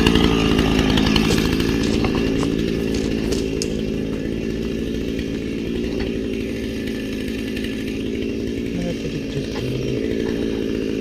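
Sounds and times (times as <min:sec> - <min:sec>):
chainsaw idling: 0:00.0 - 0:11.0.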